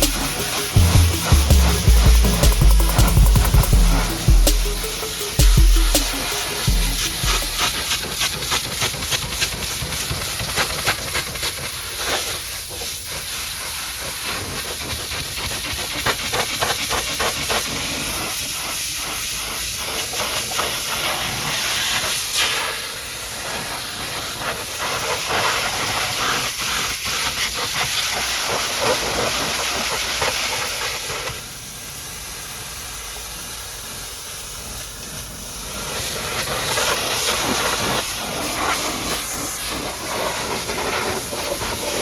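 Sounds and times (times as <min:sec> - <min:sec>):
pressure washer spraying: 0:00.0 - 0:05.4, 0:06.0 - 0:42.0.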